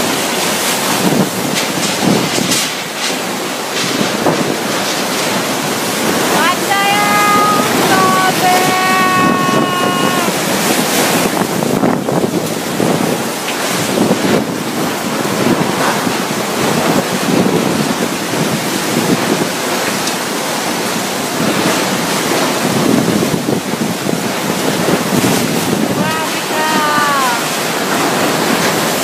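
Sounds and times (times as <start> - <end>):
driving rain: 0.0 - 29.0
strong wind: 0.0 - 29.0
wind buffeting microphone: 0.0 - 29.0.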